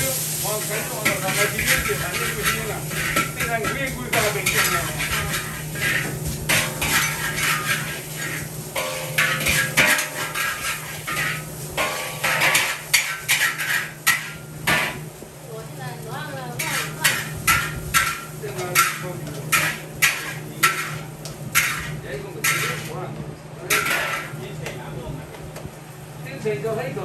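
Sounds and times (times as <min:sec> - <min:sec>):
steady low hum: 0:00.0 - 0:27.0
spatula scraping a wok: 0:00.2 - 0:15.1, 0:16.6 - 0:23.0, 0:23.7 - 0:24.5.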